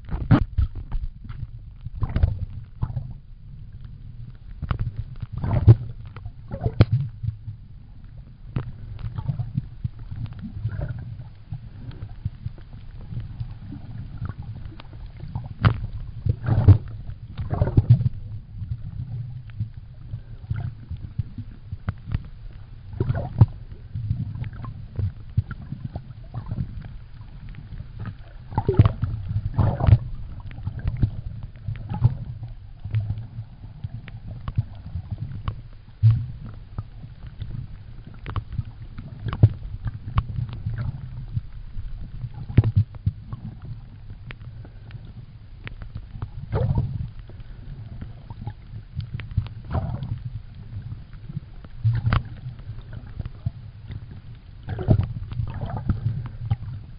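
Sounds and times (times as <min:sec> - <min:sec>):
underwater clicks and knocks: 0:00.0 - 0:56.9
underwater rumble of moving water: 0:00.0 - 0:56.9.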